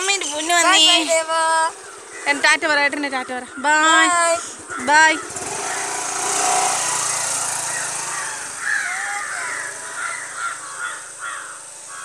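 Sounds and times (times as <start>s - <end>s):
scooter engine pulling away: 0.0s - 3.1s, 3.8s - 12.0s
crows cawing: 0.2s - 12.0s.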